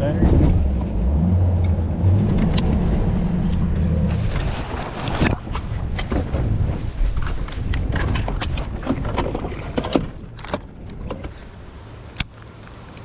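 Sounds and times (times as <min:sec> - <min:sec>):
wind on microphone: 0:00.0 - 0:11.6
boat engine rumble: 0:00.0 - 0:13.0.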